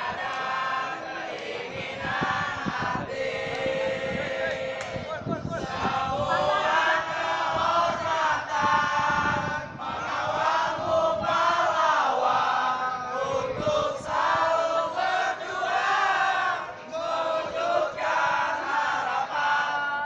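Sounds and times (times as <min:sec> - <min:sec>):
crowd chanting in unison: 0:00.0 - 0:20.0.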